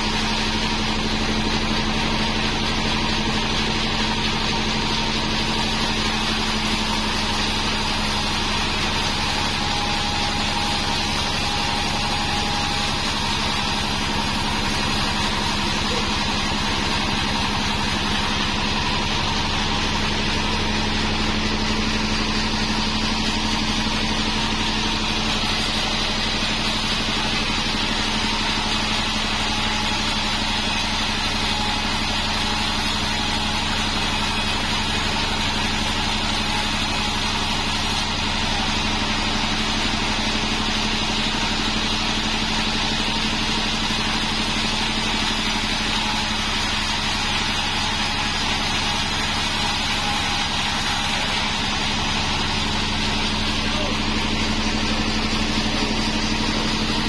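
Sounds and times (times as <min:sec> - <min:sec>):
bandsaw sawing wood: 0:00.0 - 0:57.0.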